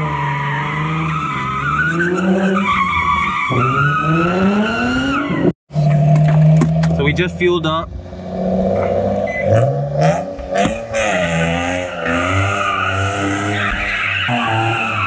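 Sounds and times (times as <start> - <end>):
car engine revving: 0.0 - 15.0
tires squealing: 0.0 - 15.0.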